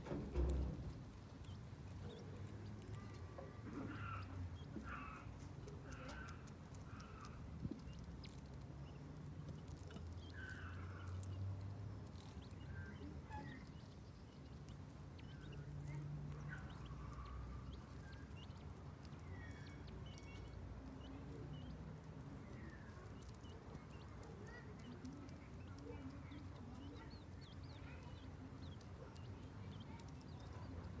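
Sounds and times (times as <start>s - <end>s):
faint irregular ticks: 0.0s - 31.0s
quail chicks peeping: 0.0s - 31.0s.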